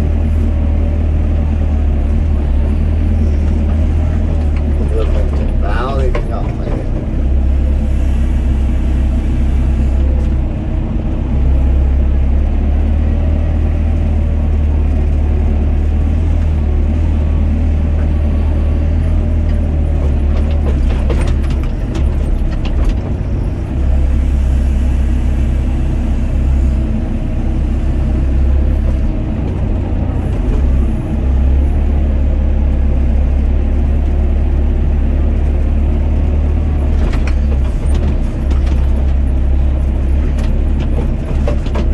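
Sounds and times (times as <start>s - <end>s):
excavator diesel engine droning: 0.0s - 41.9s.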